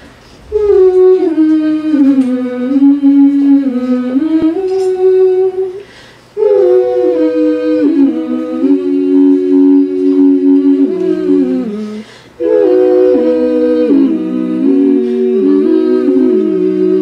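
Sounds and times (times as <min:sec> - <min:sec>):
women singing in harmony: 0:00.5 - 0:17.0.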